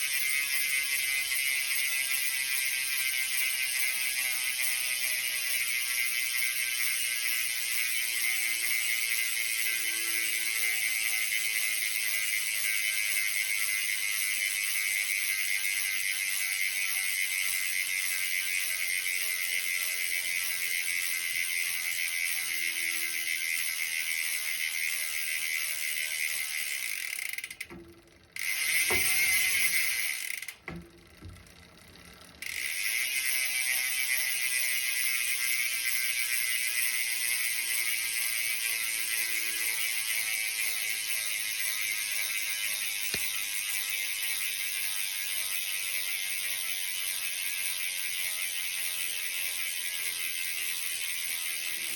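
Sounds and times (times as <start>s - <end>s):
bicycle hub freewheel buzzing: 0.0s - 51.9s.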